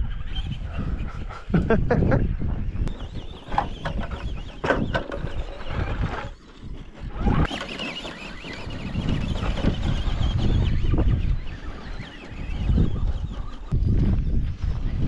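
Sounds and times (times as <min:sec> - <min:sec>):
wind buffeting microphone: 0:00.0 - 0:15.0
rc truck electric whine: 0:02.9 - 0:15.0.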